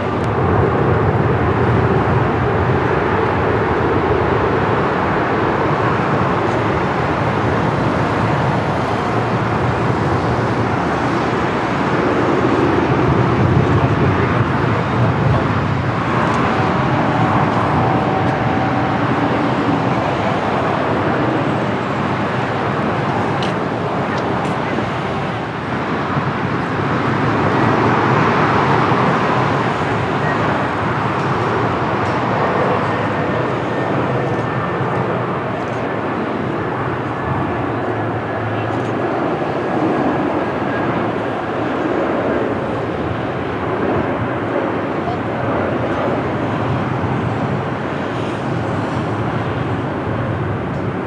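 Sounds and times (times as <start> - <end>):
traffic roar: 0.0 - 51.0.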